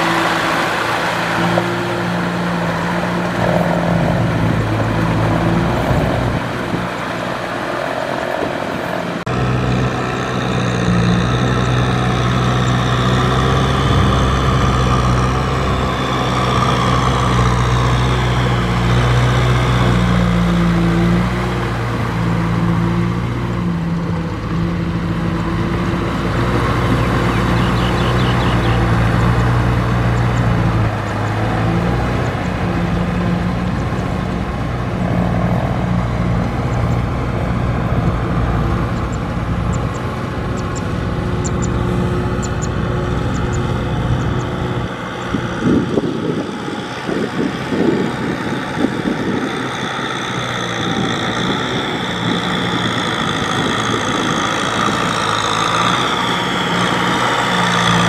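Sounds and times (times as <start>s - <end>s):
mud and water churning: 0.0s - 58.0s
tractor diesel engine running: 0.0s - 58.0s.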